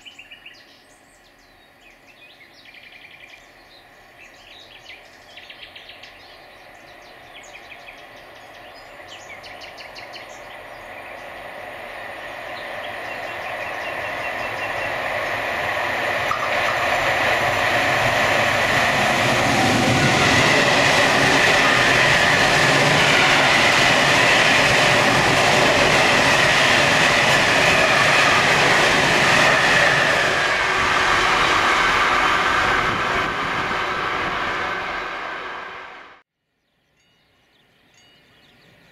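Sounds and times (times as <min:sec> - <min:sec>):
freight train rumbling past: 0:04.1 - 0:36.2.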